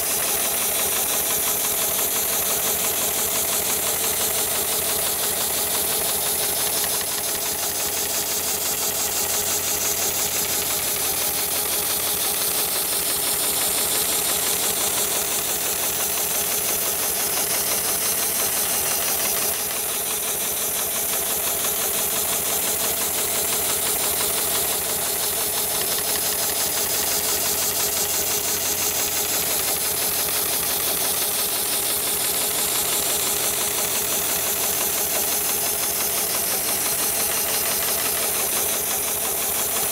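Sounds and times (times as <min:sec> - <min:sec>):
stitching machine clatter: 0:00.0 - 0:39.9.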